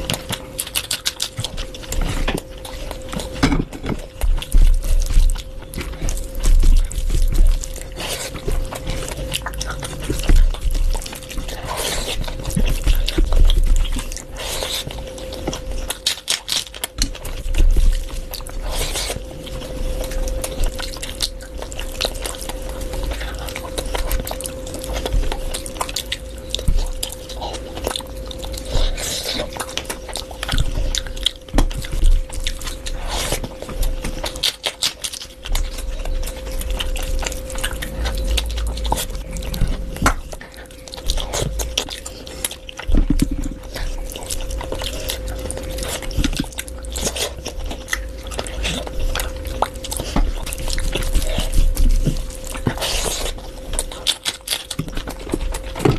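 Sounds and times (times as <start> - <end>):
steady hum: 0.0 - 55.9
wet chewing and lip smacks: 0.0 - 55.9.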